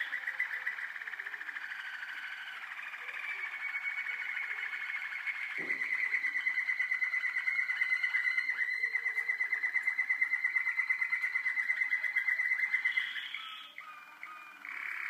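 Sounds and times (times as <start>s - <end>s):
canary singing rapid trill: 0.0s - 15.0s.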